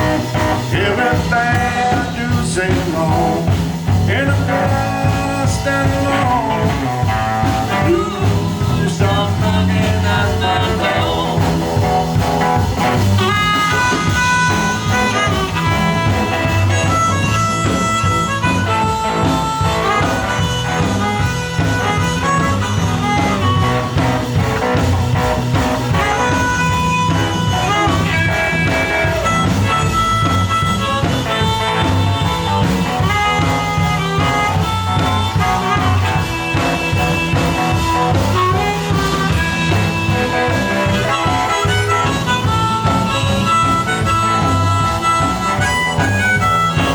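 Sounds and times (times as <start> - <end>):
band playing swing backing: 0.0 - 46.9
blues harmonica soloing: 0.0 - 46.9
steady bass line: 0.0 - 46.9.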